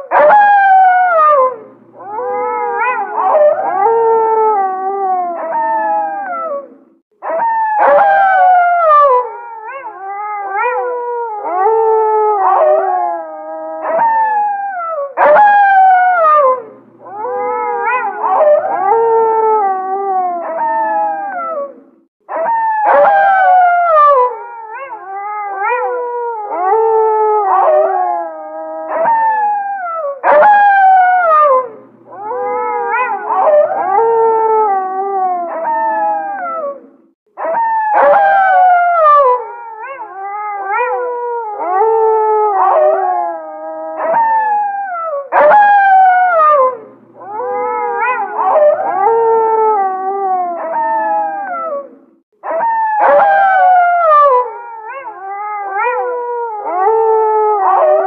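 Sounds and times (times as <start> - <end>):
wolves howling in chorus: 0.0 - 58.0.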